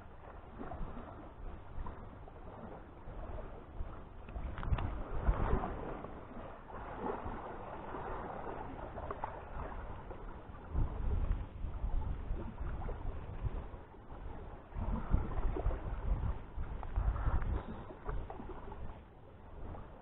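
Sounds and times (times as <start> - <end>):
wind gusting on microphone: 0.0 - 20.0.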